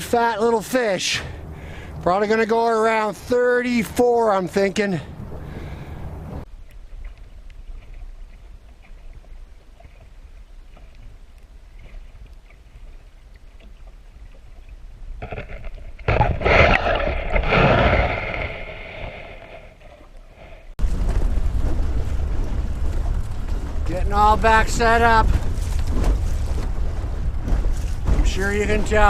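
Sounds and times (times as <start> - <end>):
water noise around boat: 0.0 - 29.0
wind: 0.0 - 29.0.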